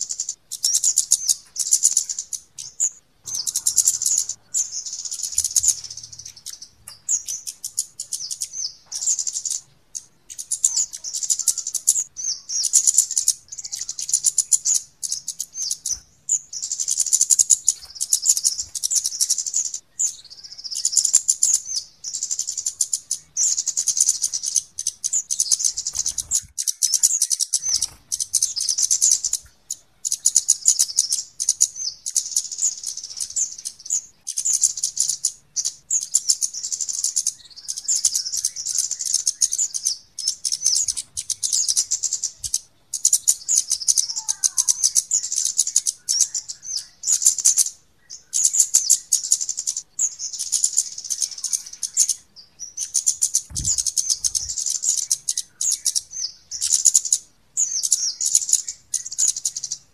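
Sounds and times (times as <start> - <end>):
flowerpeckers calling in chip runs: 0.0 - 59.9.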